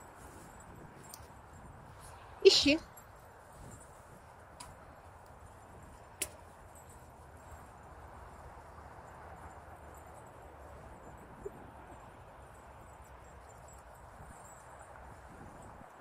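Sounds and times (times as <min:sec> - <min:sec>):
footsteps through dry grass: 0:00.0 - 0:16.0.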